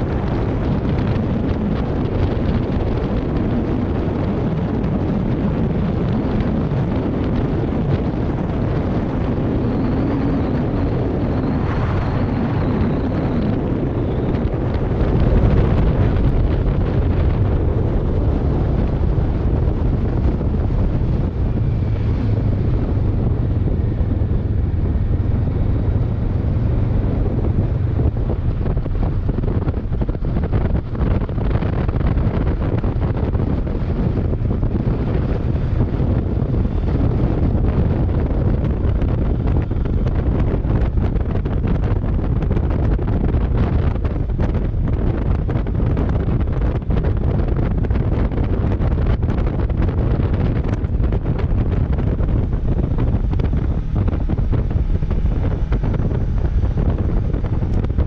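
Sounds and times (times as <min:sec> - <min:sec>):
motorcycle engine drone: 0:00.0 - 0:58.0
wind buffeting microphone: 0:00.0 - 0:58.0.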